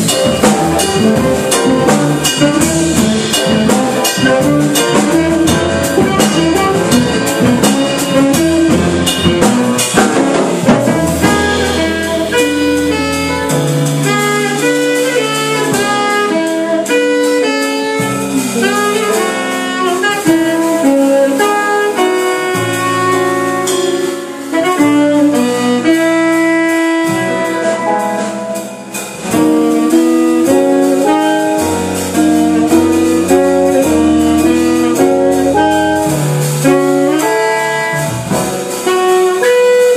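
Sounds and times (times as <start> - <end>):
drums and cymbals: 0.0 - 39.9
jazz band playing: 0.0 - 39.9
saxophone melody: 0.0 - 39.9.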